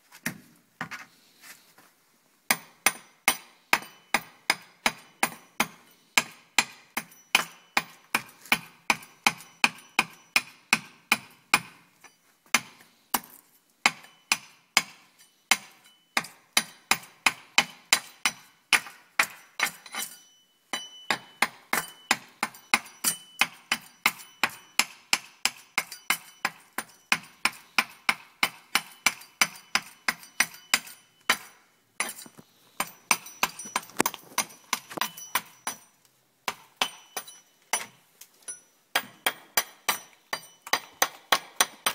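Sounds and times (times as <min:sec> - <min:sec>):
hatchet chopping wood: 0:02.5 - 0:11.8, 0:12.5 - 0:20.0, 0:20.8 - 0:38.0, 0:38.9 - 0:41.9.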